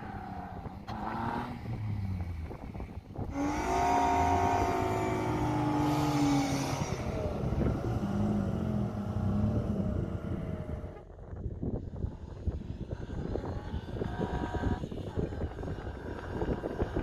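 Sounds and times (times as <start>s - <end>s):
off-road engines running under load: 0.0s - 17.0s.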